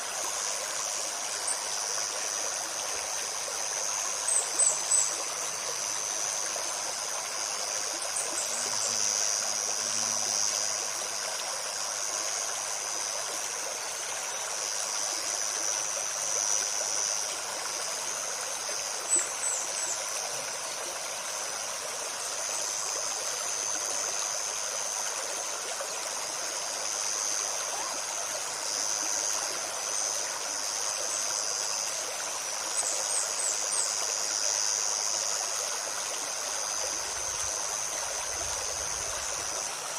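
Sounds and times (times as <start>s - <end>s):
high-pitched insect drone: 0.0s - 39.9s
stream babbling over stones: 0.0s - 39.9s.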